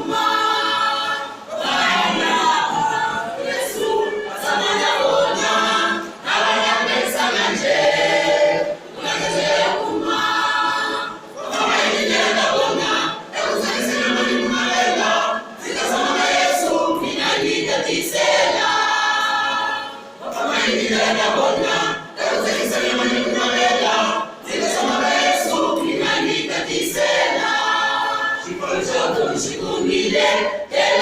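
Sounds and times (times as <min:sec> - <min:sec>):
choir singing a cappella: 0:00.0 - 0:31.0.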